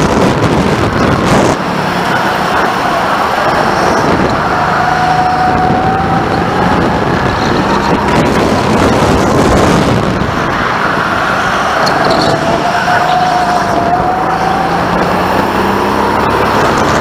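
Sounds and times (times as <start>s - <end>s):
go-kart motor running: 0.0s - 17.0s
steady loud rushing noise: 0.0s - 17.0s.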